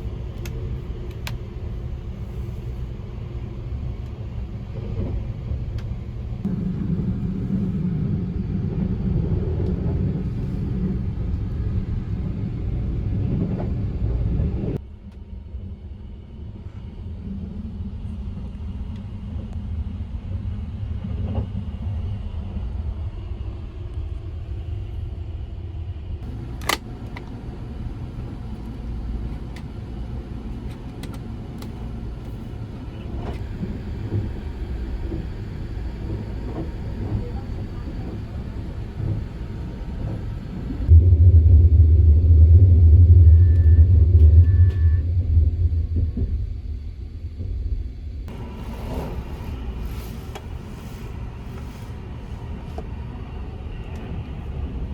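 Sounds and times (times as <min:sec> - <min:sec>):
train rumbling: 0:00.0 - 0:54.9.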